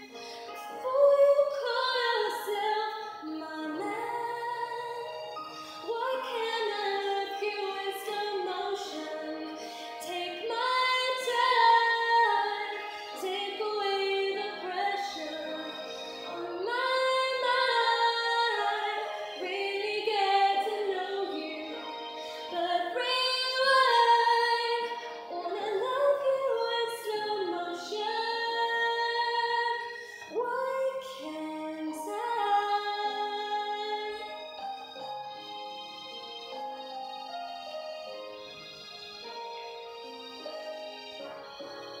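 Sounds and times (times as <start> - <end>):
sustained instrumental accompaniment: 0.0 - 30.5, 31.2 - 42.0
woman singing: 0.0 - 34.6.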